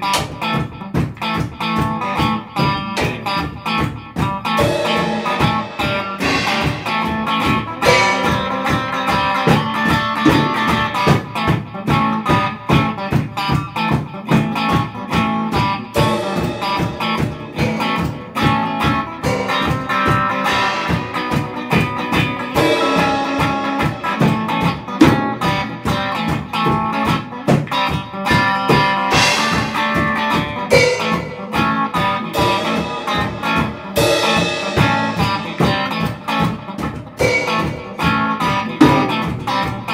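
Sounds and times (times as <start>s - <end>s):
electric guitar playing: 0.0s - 39.9s
steady drum beat: 0.0s - 39.9s.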